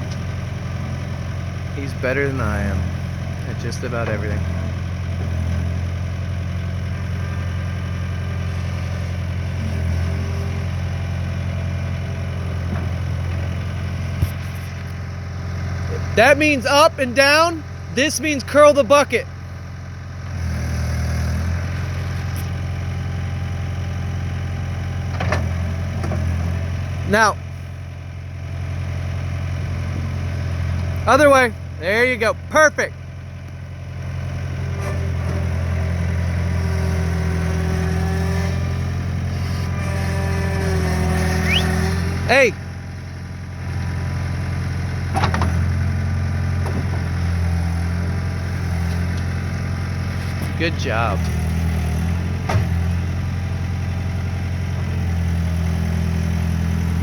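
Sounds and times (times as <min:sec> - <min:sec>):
skid steer engine droning: 0:00.0 - 0:57.0.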